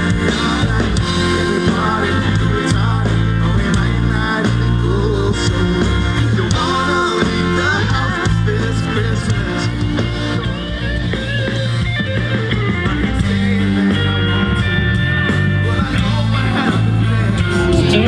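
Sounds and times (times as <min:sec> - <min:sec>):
instrumental band music: 0:00.0 - 0:18.0.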